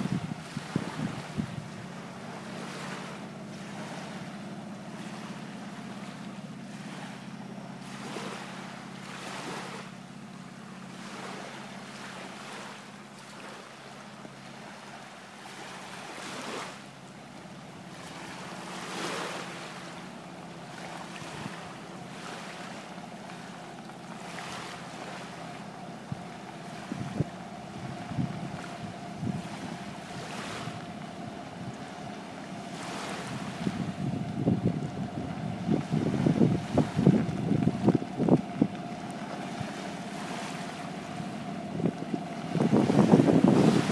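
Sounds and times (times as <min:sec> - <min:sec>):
boat engine humming: 0:00.0 - 0:43.9
small waves washing on beach: 0:00.0 - 0:43.9.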